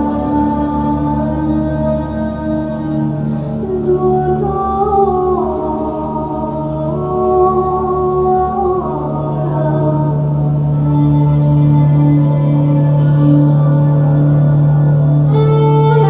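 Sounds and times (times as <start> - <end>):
ambient meditative music: 0.0 - 16.0.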